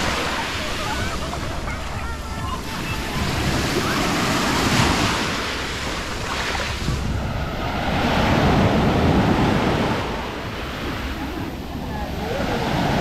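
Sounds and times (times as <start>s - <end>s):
small waves washing ashore: 0.0s - 13.0s
wind buffeting microphone: 0.0s - 13.0s.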